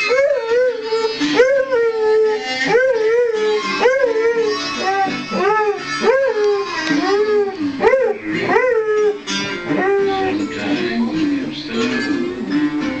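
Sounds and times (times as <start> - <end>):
dog howling: 0.0 - 10.5
guitar music: 0.0 - 13.0.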